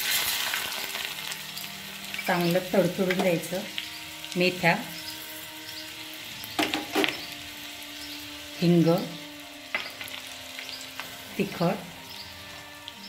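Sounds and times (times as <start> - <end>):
seeds crackling in hot oil: 0.0 - 13.0.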